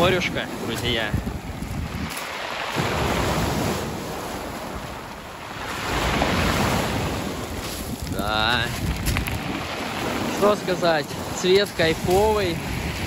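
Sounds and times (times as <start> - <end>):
waves breaking on pebble beach: 0.0 - 13.0.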